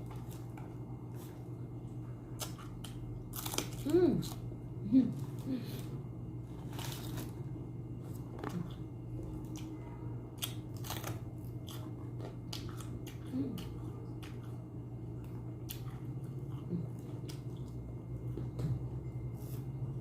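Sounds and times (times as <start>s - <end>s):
person chewing and crunching food: 0.0s - 20.0s
steady low hum: 0.0s - 20.0s.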